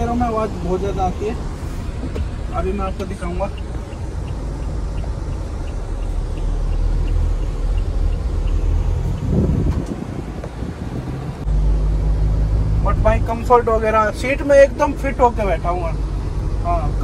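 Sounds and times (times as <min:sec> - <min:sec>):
diesel engine drone in cabin: 0:00.0 - 0:17.0.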